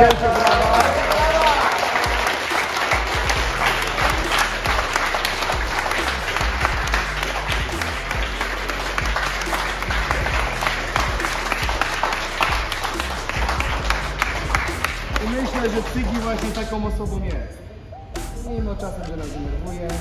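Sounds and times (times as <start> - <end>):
people applauding: 0.0 - 16.9.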